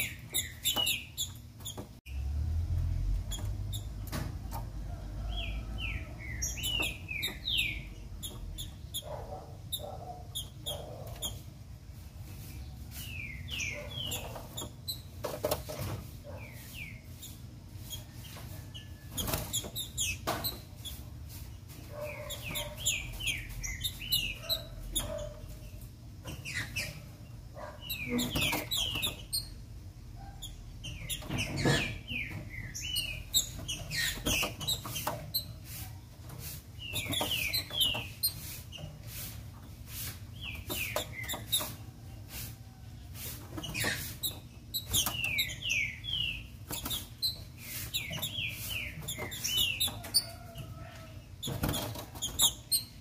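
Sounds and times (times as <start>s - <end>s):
bird chirping: 0.0s - 2.4s, 3.1s - 11.5s, 12.2s - 15.2s, 16.3s - 35.8s, 36.4s - 38.9s, 40.3s - 42.3s, 43.5s - 53.0s.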